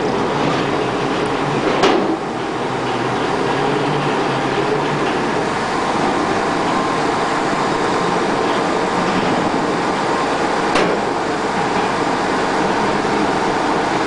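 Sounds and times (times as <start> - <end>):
excavator engine under load: 0.0 - 14.0
tracks clanking: 0.0 - 14.0.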